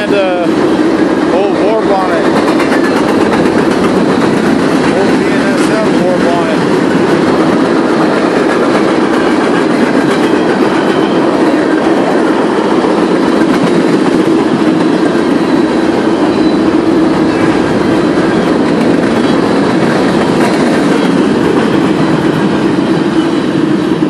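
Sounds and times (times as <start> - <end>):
steel train wheels on rails: 0.0 - 24.0.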